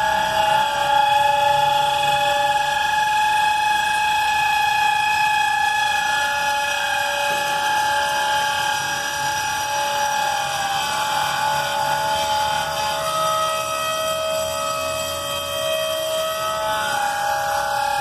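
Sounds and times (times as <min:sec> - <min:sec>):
railcar brakes squealing: 0:00.0 - 0:18.0.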